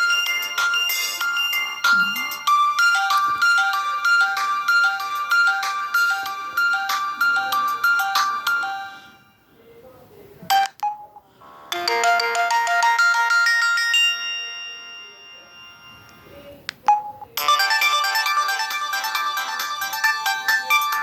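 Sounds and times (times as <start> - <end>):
phone ringtone melody: 0.0 - 9.5, 10.5 - 21.0.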